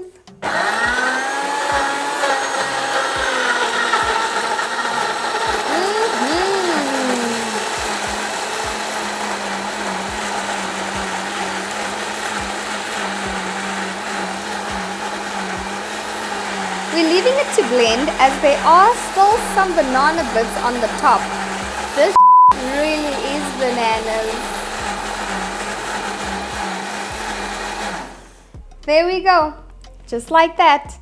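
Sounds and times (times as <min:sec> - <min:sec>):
blender motor running: 0:00.0 - 0:28.6.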